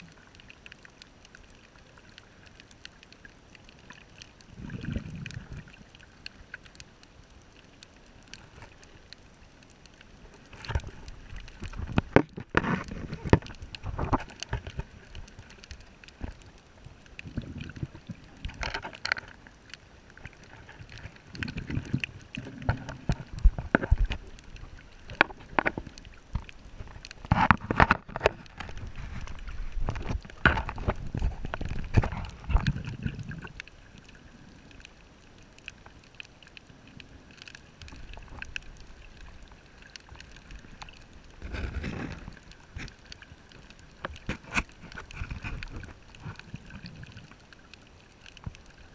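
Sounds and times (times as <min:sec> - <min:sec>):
low rumbling water noise: 0:00.0 - 0:48.9.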